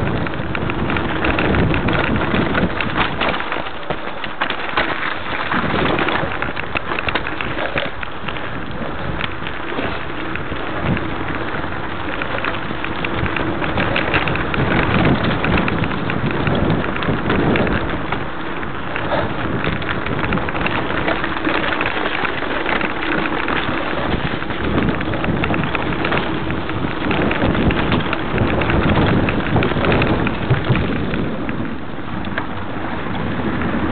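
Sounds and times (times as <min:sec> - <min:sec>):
tyres crunching over stones: 0:00.0 - 0:32.7
bike clattering over bumps: 0:00.0 - 0:33.9.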